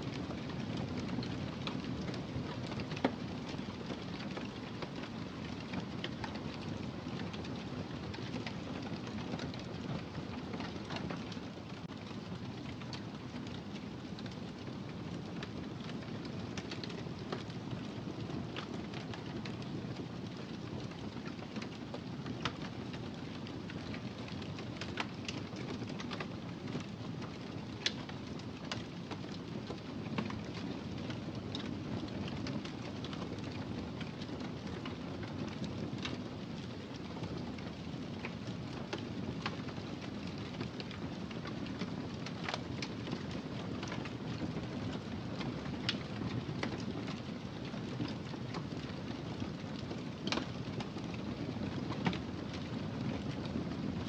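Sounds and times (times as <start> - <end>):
wood fire crackling: 0.1 - 54.0.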